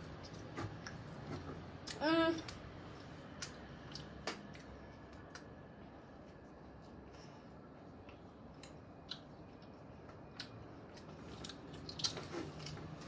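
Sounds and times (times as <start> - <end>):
child chewing food: 0.0 - 13.0
faint room hum: 0.0 - 13.0.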